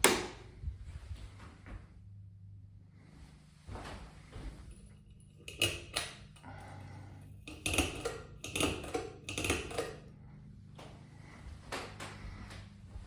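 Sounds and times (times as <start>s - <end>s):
ceiling fan motor hum: 0.0s - 13.0s.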